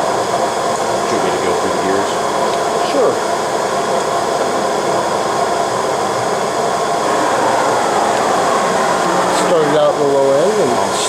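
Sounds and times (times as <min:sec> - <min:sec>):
machinery humming and whining: 0:00.0 - 0:11.0.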